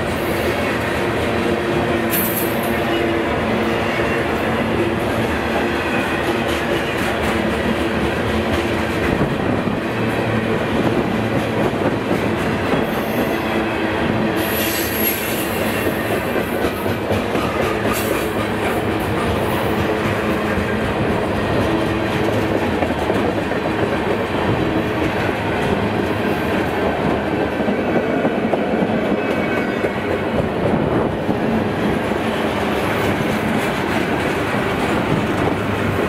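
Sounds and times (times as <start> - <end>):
railway cars rolling past: 0.0 - 36.0.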